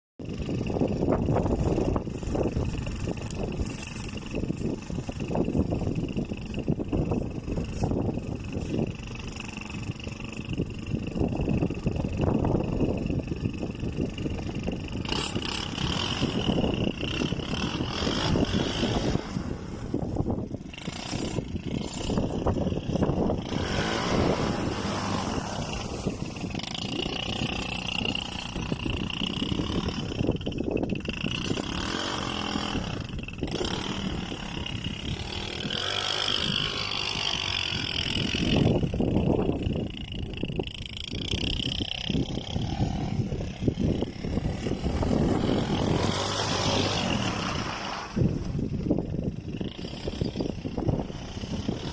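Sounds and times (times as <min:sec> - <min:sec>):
quad bike engine revving: 0:00.2 - 0:51.9.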